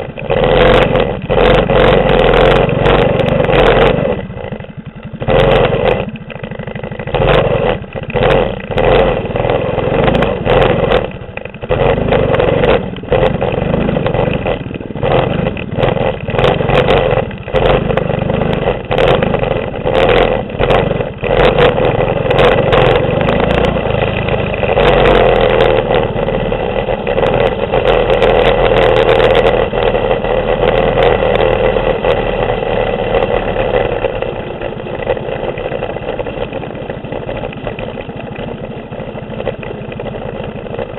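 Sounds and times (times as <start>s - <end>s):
small engine revving: 0.0s - 40.9s.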